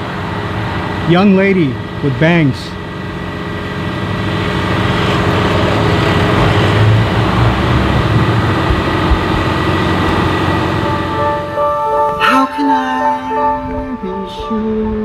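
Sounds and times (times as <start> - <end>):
vehicle engine and road noise: 0.0 - 12.3.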